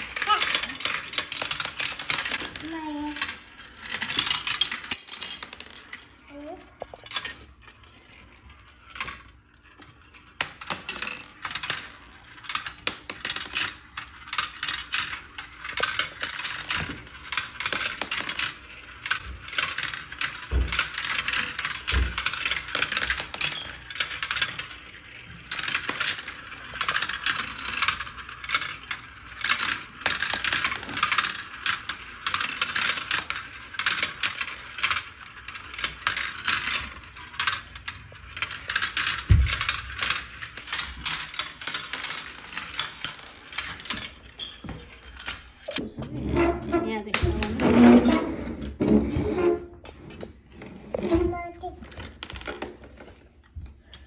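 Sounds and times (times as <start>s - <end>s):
marbles rattling through plastic tubes: 0.0s - 49.8s.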